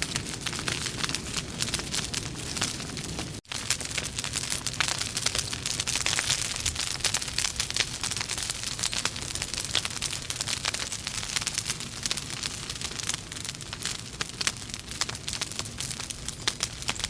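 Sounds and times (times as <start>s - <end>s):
logs crackling in a fireplace: 0.0s - 17.0s.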